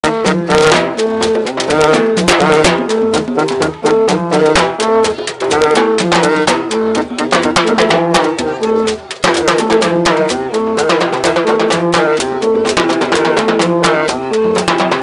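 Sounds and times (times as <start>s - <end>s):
upbeat brass and drums music: 0.0s - 15.0s.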